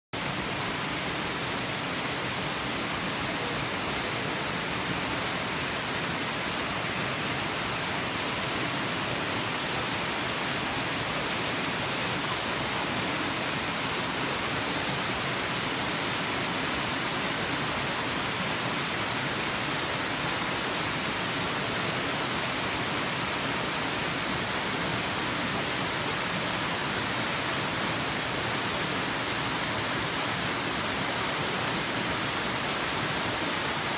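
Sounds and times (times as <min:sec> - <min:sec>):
rushing water: 0:00.2 - 0:33.9.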